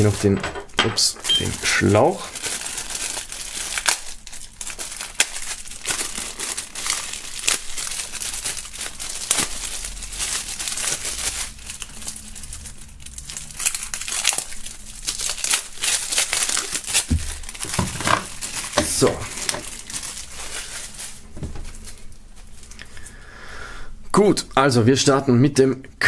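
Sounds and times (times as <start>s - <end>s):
plastic bag crinkling: 0.0s - 0.4s, 1.3s - 23.1s.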